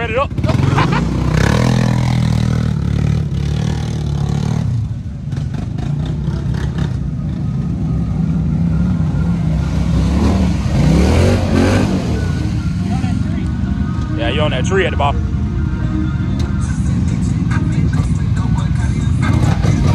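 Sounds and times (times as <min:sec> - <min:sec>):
atv engines revving: 0:00.0 - 0:19.9.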